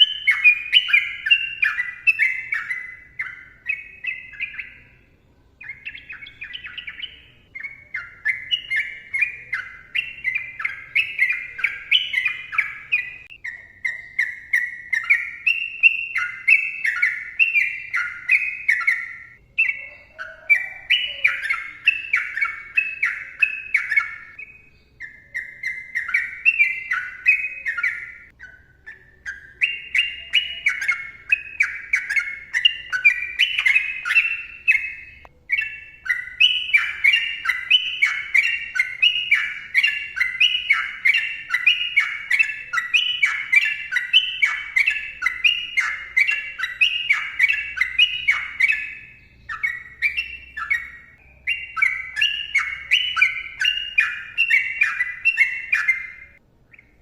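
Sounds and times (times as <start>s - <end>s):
bulbul singing warbled phrases: 0.0s - 57.0s.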